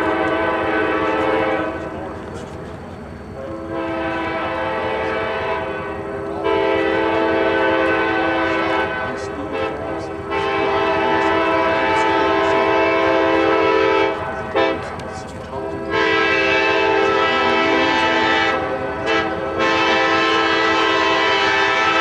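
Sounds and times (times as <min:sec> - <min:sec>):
air horn chord blasts: 0:03.6 - 0:14.9, 0:15.6 - 0:22.0.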